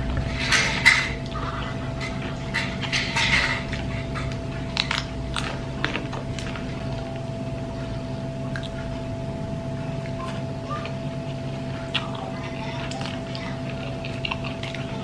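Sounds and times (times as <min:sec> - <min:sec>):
person chewing crunchy food: 0:00.0 - 0:15.0
steady hum: 0:00.0 - 0:15.0.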